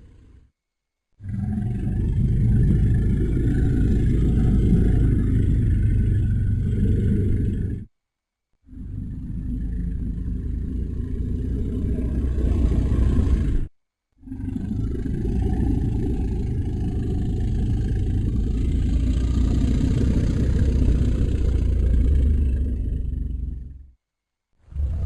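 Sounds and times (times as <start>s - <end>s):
deep drawn-out animal call: 1.2s - 7.9s, 8.6s - 24.0s, 24.6s - 25.0s.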